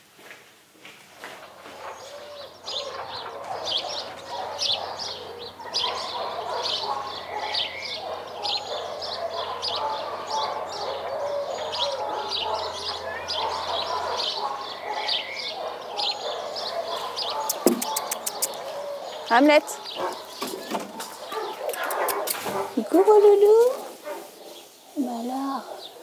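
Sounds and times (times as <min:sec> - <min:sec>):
small birds chirping: 0:01.2 - 0:26.0.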